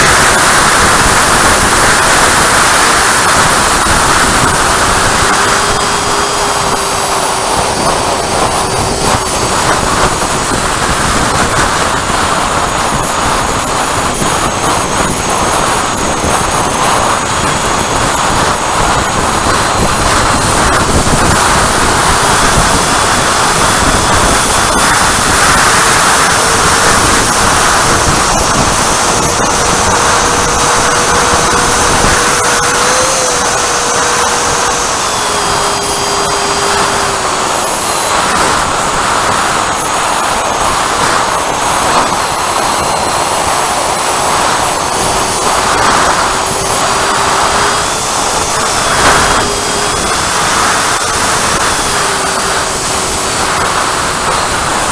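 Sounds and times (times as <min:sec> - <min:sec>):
electric ducted fan whine: 0:00.0 - 0:54.9
rush of air: 0:00.0 - 0:54.9.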